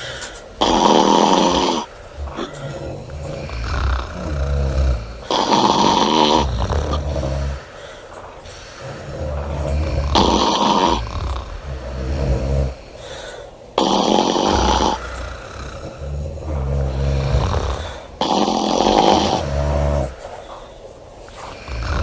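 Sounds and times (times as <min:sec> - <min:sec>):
woman snoring loudly: 0:00.0 - 0:07.8, 0:08.6 - 0:20.3, 0:21.4 - 0:22.0.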